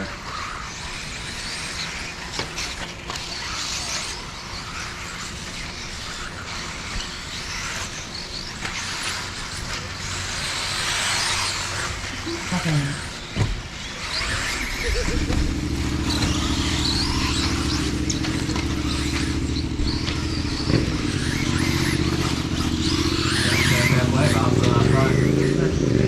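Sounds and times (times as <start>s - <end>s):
rc car motors hissing: 0.0s - 26.0s.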